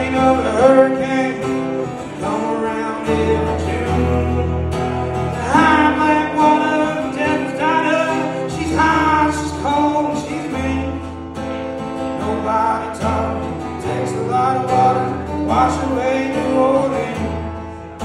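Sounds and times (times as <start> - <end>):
man singing: 0.0 - 11.2, 12.0 - 18.0
strummed acoustic guitar: 0.0 - 18.0.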